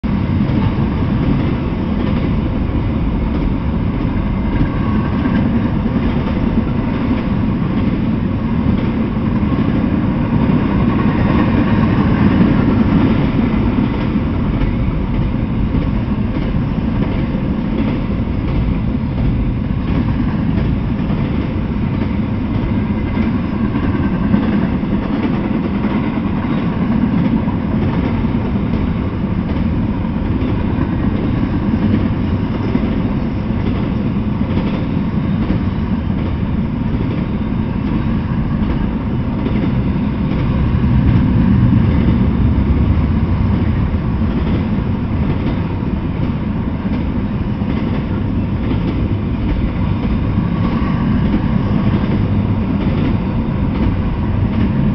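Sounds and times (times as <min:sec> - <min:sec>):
freight train wheels rolling on rails: 0:00.0 - 0:54.9.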